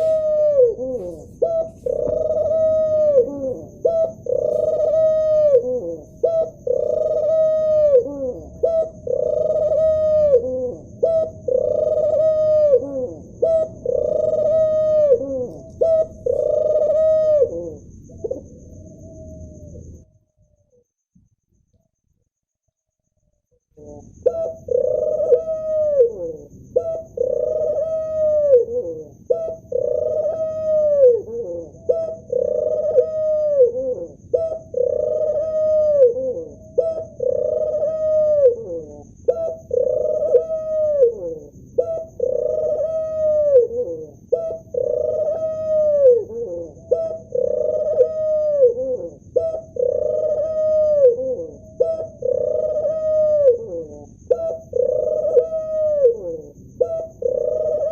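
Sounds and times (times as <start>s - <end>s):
dove cooing: 0.0s - 20.1s, 23.8s - 57.9s.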